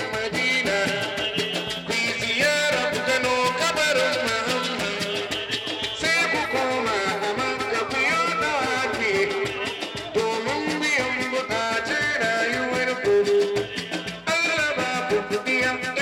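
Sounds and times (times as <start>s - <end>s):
song with percussion beat: 0.0s - 16.0s.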